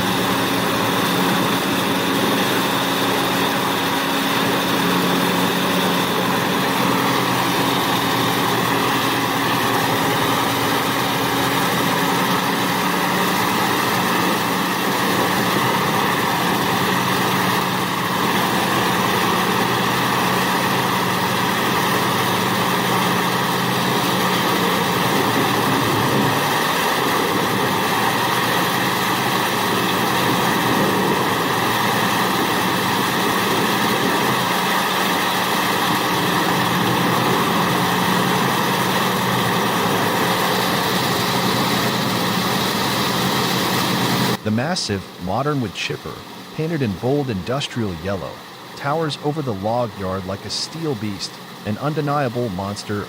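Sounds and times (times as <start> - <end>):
grinding machinery: 0.0 - 47.3
wood grinder engine drone: 0.0 - 53.0.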